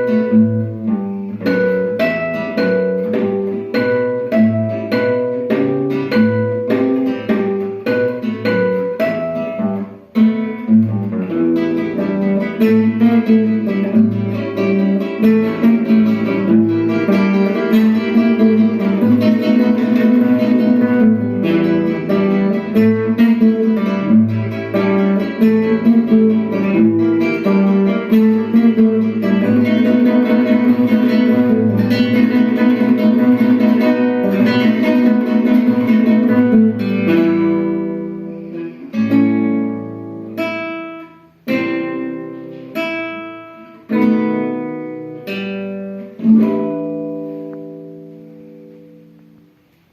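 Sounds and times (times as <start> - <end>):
acoustic guitars playing blues: 0.0 - 49.9.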